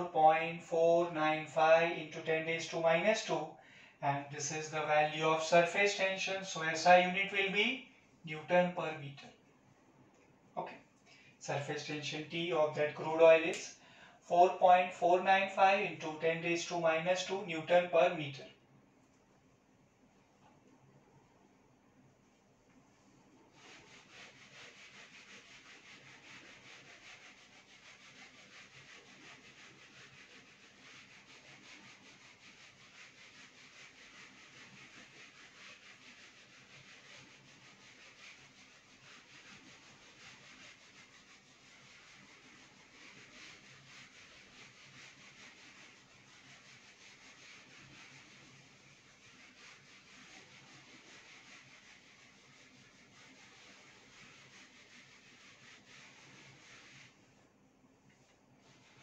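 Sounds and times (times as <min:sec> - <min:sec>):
duster rubbing on whiteboard: 0:00.0 - 0:07.8, 0:11.6 - 0:13.8, 0:14.4 - 0:18.2, 0:22.2 - 0:59.0.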